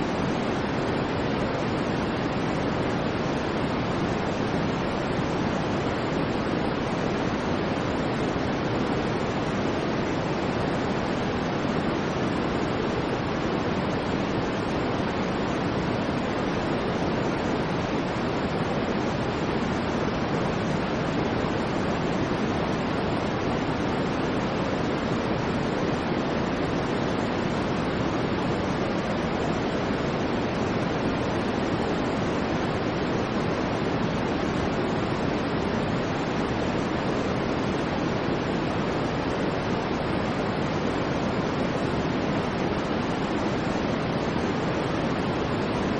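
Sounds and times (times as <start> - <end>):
white noise hiss: 0.0 - 45.9.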